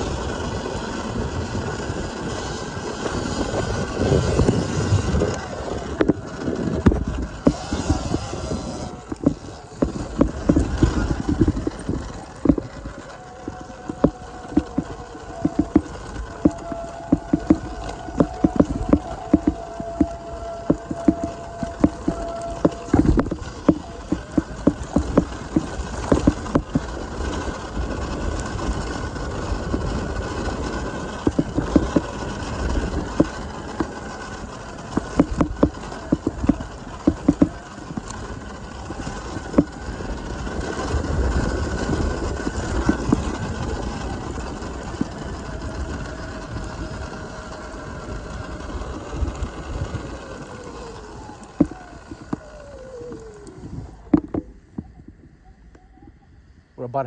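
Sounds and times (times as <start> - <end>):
dirt bike rattling over bumps: 0.0 - 55.2
faint electric motor whine: 0.0 - 57.0.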